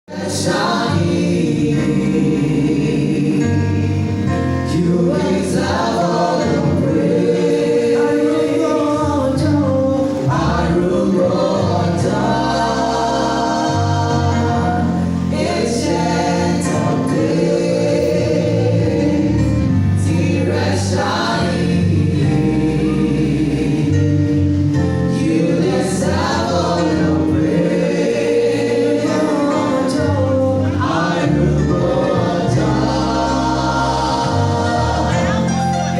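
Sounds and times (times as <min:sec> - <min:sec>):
choir singing in harmony: 0:00.1 - 0:35.9.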